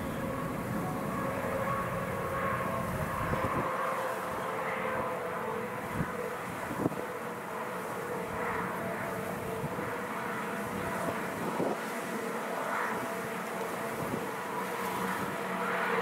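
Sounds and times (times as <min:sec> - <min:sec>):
electric locomotive humming: 0:00.0 - 0:16.0.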